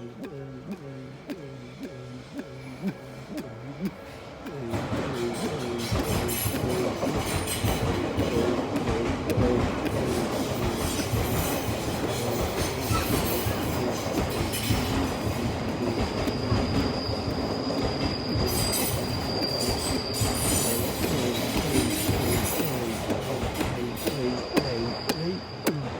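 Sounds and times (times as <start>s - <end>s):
train wheels rumbling and clattering: 0.6s - 25.9s
high wheel squeal: 4.0s - 25.9s.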